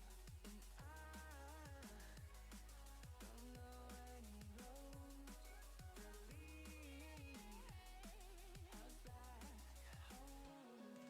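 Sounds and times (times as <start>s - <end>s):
faint electronic music with deep beat: 0.0s - 11.0s.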